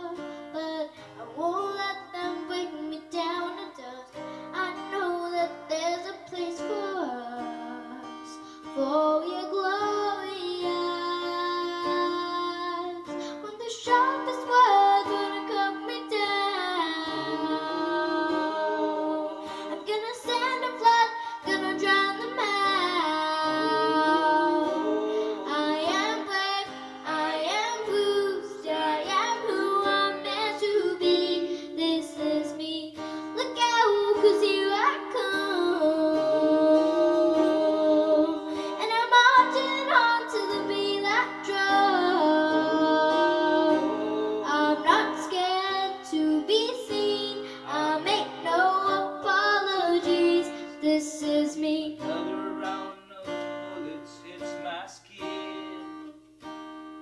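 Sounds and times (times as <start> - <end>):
girl singing into a microphone: 0.0 - 53.4
acoustic guitar: 0.0 - 57.0.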